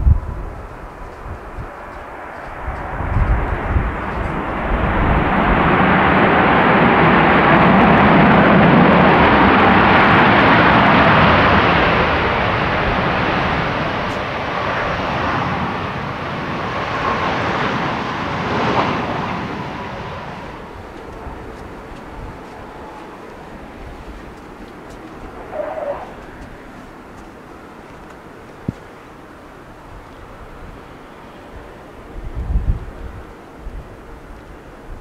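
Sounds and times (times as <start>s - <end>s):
jet engines passing: 0.0s - 35.0s
wind rumbling on microphone: 0.0s - 35.0s.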